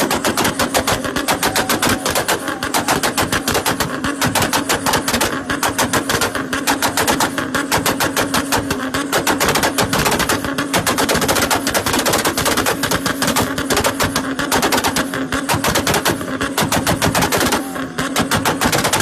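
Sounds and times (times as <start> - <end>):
car engine on rev limiter: 0.0 - 19.0
exhaust popping: 0.0 - 19.0.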